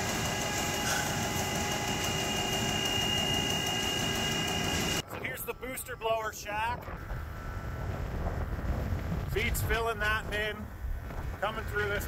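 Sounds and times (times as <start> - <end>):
steady whining tones: 0.0 - 12.0
ventilation fans droning: 0.0 - 12.0.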